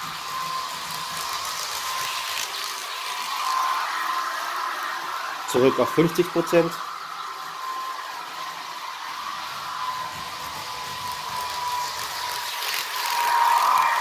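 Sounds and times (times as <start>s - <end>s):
electric train motor whine: 0.0s - 14.0s.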